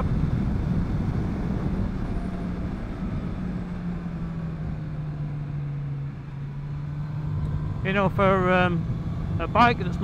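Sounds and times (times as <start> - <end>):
motorcycle engine cruising: 0.0 - 10.0
wind and road rush: 0.0 - 10.0.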